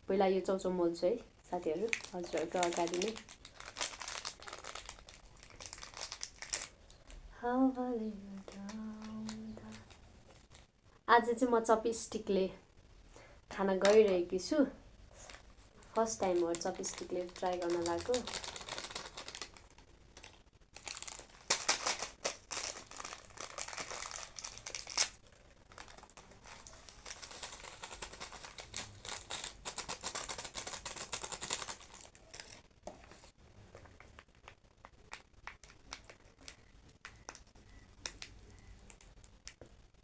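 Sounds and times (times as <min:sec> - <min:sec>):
plastic packet crinkling: 0:01.5 - 0:10.7, 0:13.2 - 0:39.6.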